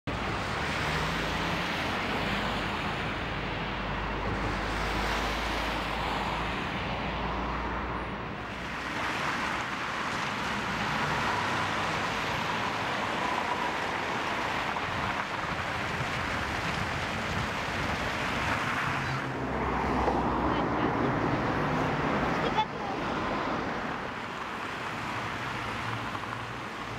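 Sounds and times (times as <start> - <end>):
cars driving on wet street: 0.0 - 26.9.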